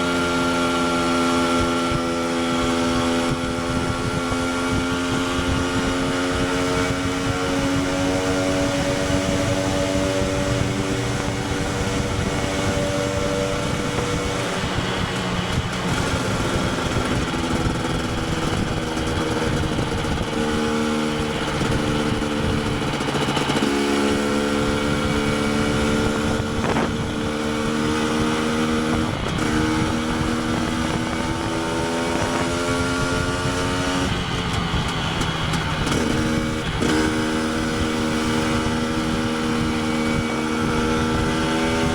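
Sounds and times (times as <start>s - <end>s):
motorcycle engine running: 0.0s - 41.9s
wind noise: 0.0s - 41.9s.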